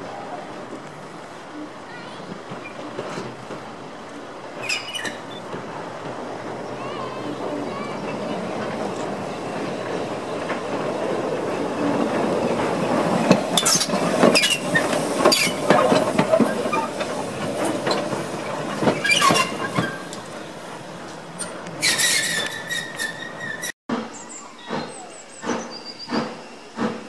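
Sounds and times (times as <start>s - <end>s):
steam hissing from locomotive: 0.0s - 23.7s, 24.6s - 27.0s
wheels clanking over rail joints: 0.0s - 27.0s.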